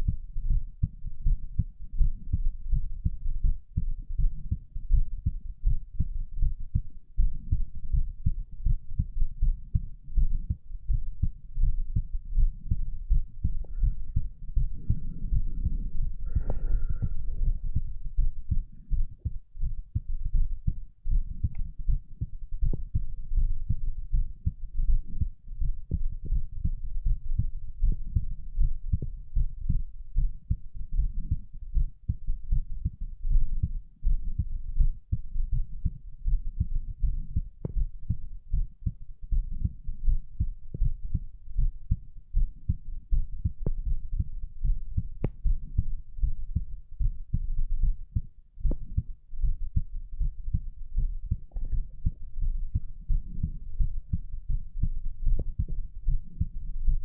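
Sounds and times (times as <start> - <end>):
heartbeat thumps: 0.0 - 57.0.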